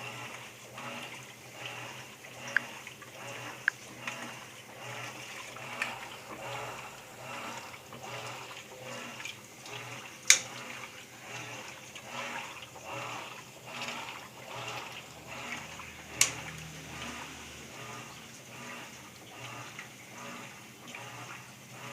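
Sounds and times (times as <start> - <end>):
low motor hum: 0.0 - 21.9
water sloshing in washing machine: 0.0 - 21.9.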